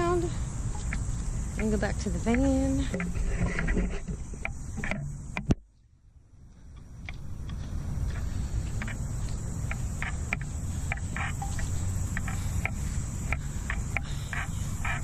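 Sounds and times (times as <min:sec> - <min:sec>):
crickets chirping: 0:00.0 - 0:15.0
low outdoor rumble: 0:00.0 - 0:15.0.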